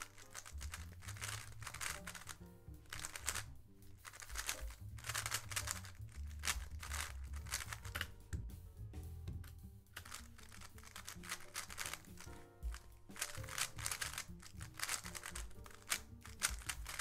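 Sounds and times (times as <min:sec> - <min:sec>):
speedcube clicking: 0:00.0 - 0:08.2, 0:10.0 - 0:17.0
background music with bass: 0:00.0 - 0:17.0.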